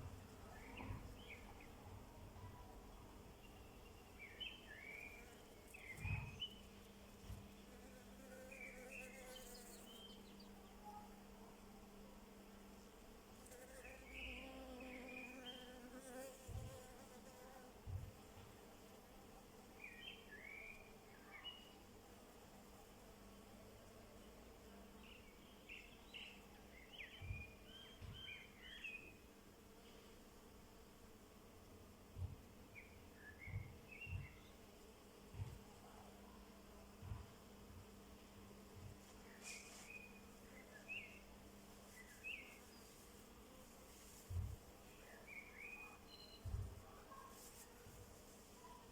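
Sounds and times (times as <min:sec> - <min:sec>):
faint low hum: 0:00.0 - 0:48.9
songbirds chirping: 0:00.1 - 0:11.3, 0:13.6 - 0:16.6, 0:19.4 - 0:29.3, 0:32.2 - 0:37.2, 0:38.0 - 0:48.9.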